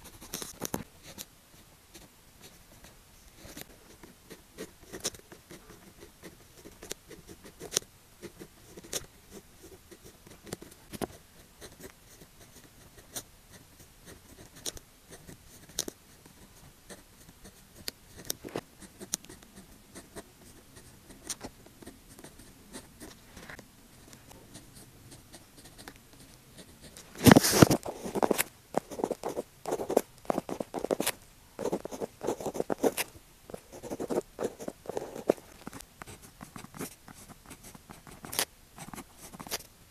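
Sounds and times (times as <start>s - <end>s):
pen scratching on paper: 1.9s - 39.6s.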